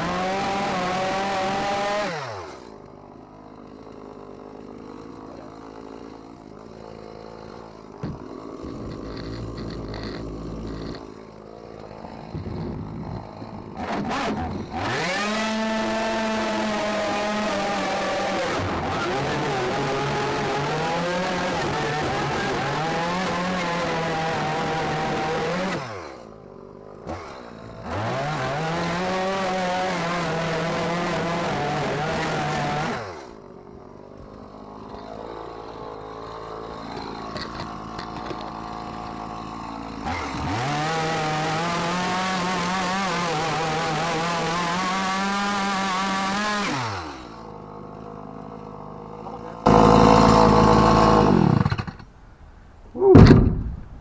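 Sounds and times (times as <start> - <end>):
chainsaw cutting fiberglass: 0.0 - 54.0.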